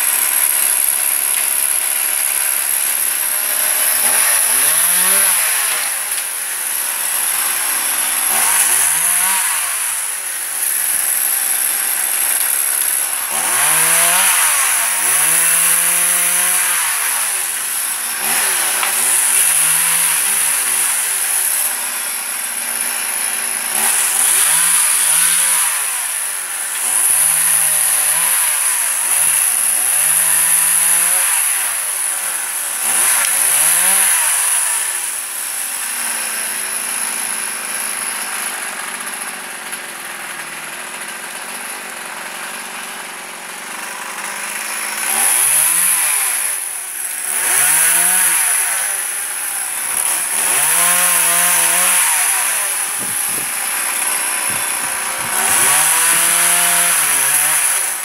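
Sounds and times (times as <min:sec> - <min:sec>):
chainsaw revving and idling: 0:00.0 - 0:58.0.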